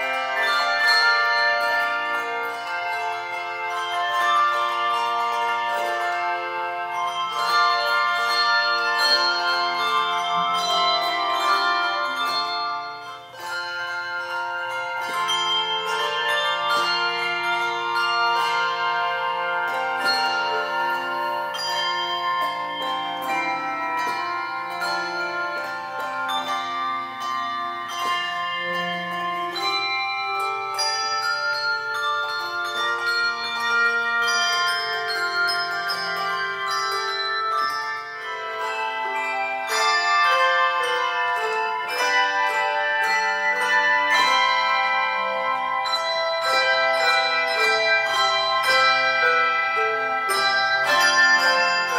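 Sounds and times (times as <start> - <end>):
handbell choir playing: 0.0 - 51.9.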